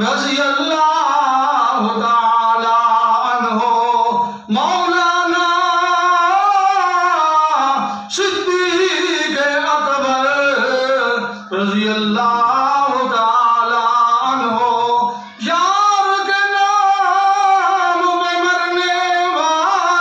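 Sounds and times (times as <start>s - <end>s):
man singing amplified: 0.0s - 20.0s.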